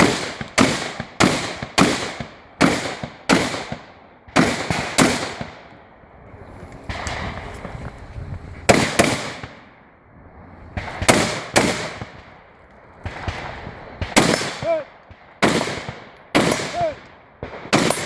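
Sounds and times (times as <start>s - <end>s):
rifle shots echoing: 0.0s - 6.1s, 6.8s - 7.8s, 8.7s - 9.9s, 10.7s - 18.0s.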